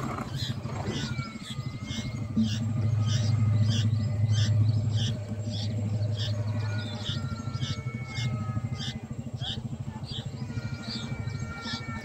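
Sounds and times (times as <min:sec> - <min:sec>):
low steady hum: 0:00.0 - 0:12.0
nestlings chirping: 0:00.0 - 0:12.0.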